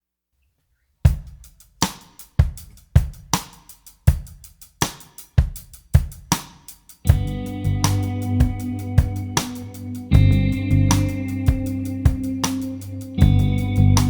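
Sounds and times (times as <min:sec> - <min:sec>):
drum kit beat: 0:01.1 - 0:14.0.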